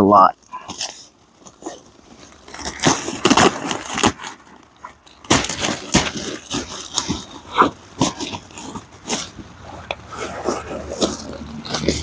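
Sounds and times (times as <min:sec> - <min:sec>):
plastic sheeting crinkling: 0:00.4 - 0:12.0
tape being applied: 0:00.6 - 0:12.0.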